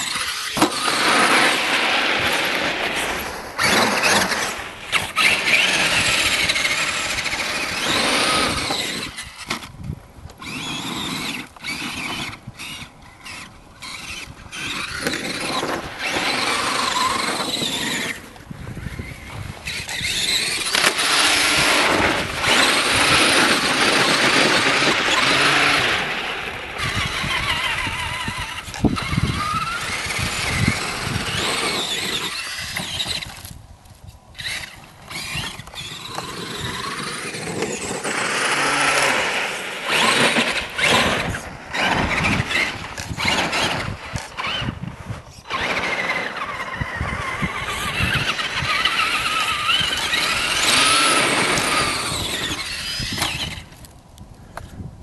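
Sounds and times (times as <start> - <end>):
electric motor whining: 0.0 - 33.6, 34.3 - 54.0.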